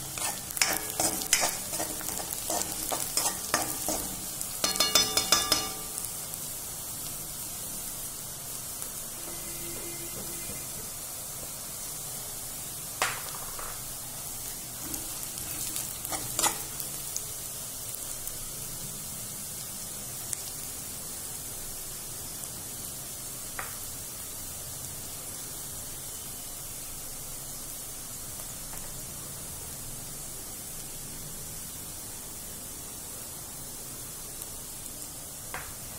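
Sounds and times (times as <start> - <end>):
food frying in hot oil: 0.0 - 35.9.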